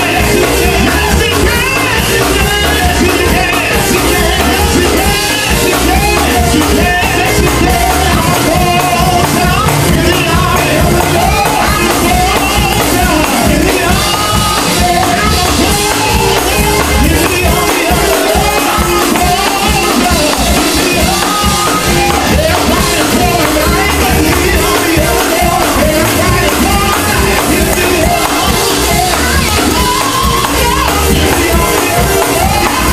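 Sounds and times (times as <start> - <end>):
keyboard accompaniment: 0.0 - 32.9
voices singing: 0.0 - 32.9.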